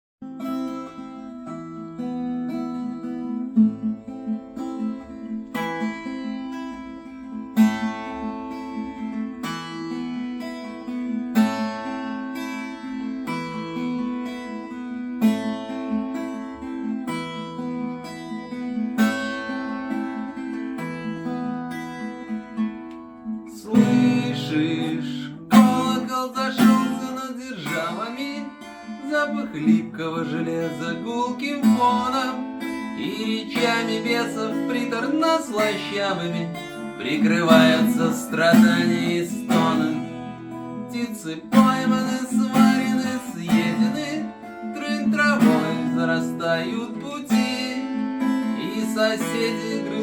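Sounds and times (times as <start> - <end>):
guitar chords: 0.2 - 50.0
guitar strums: 0.2 - 50.0.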